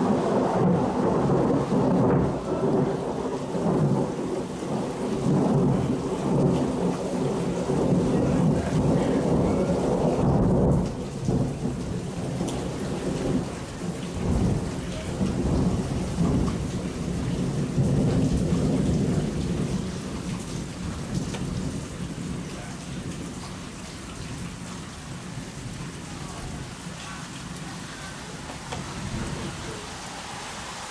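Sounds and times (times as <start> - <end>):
rolling thunder: 0.0 - 30.9
steady rain: 0.0 - 30.9.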